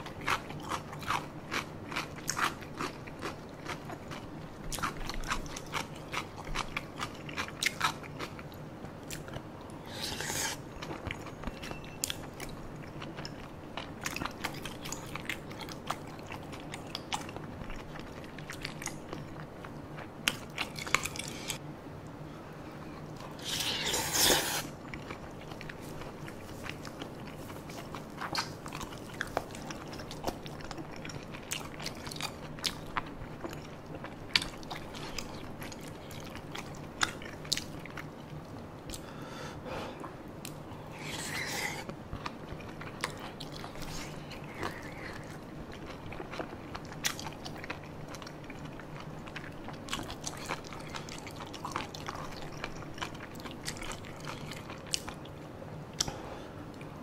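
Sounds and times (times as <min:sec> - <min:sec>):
wet chewing and crunching: 0:00.0 - 0:21.6, 0:23.0 - 0:39.1, 0:40.4 - 0:57.0
steady low hum: 0:00.0 - 0:57.0.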